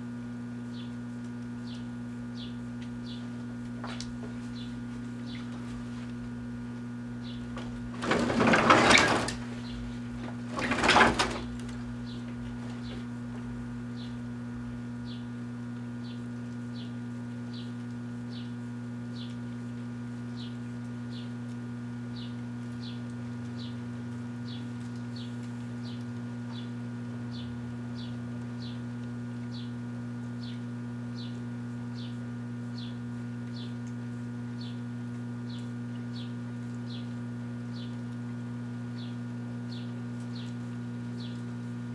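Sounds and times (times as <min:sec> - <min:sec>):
microwave oven hum: 0:00.0 - 0:41.9.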